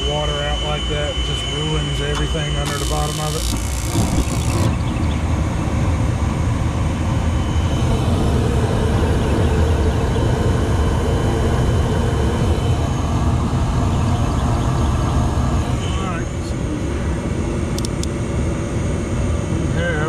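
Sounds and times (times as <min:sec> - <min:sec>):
gas burner low rumble: 0:00.0 - 0:18.1.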